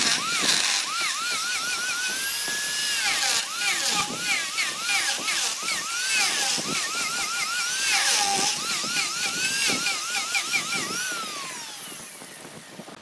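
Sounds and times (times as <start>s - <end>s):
power tool whining on wood: 0.0s - 13.0s.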